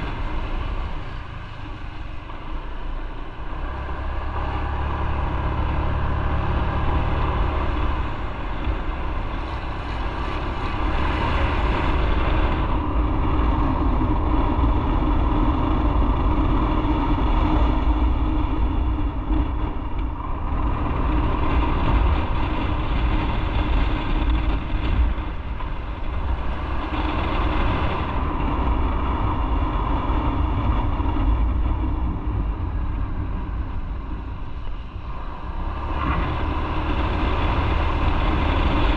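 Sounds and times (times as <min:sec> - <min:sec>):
motorcycle engine rumbling: 0:00.0 - 0:38.9
wind noise: 0:00.0 - 0:38.9.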